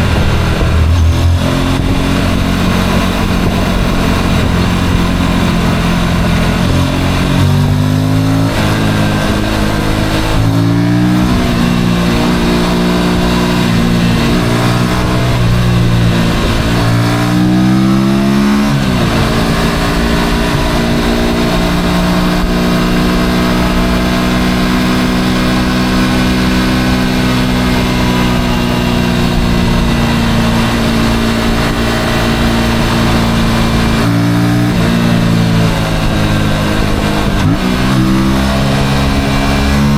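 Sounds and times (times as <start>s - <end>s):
motorcycle engine shifting gears: 0.0s - 39.9s
road noise rushing: 0.0s - 39.9s.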